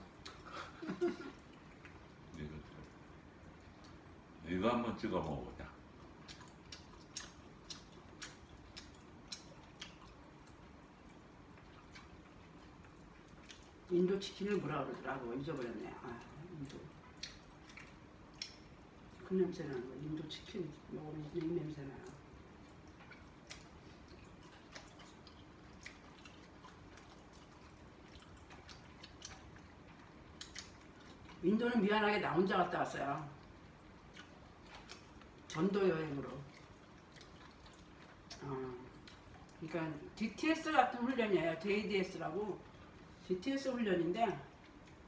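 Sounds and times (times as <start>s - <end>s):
chewing crispy fried chicken: 0.0s - 45.0s.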